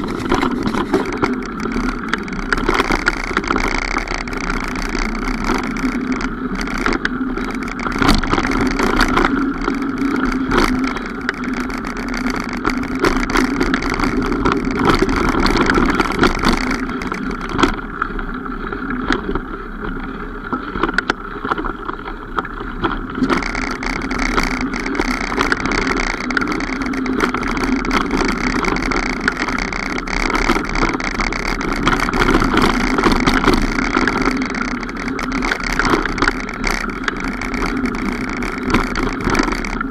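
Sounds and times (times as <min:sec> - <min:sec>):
bike clicks and rattles: 0:00.0 - 0:39.9
mountain bike rolling on trail: 0:00.0 - 0:39.9.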